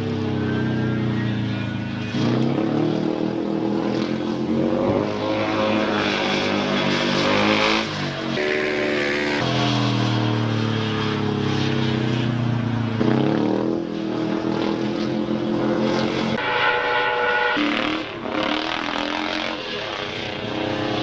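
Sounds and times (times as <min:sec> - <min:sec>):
motorcycle engine revving: 0:00.0 - 0:16.5, 0:17.4 - 0:21.0.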